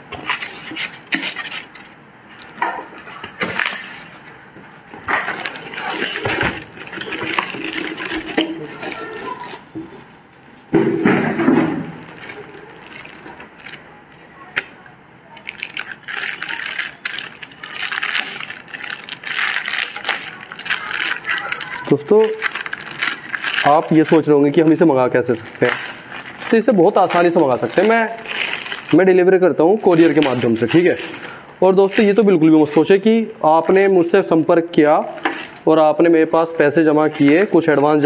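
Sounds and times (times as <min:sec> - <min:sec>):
plastic wrapping crinkling: 0:00.0 - 0:10.6, 0:11.9 - 0:35.7, 0:36.3 - 0:38.0.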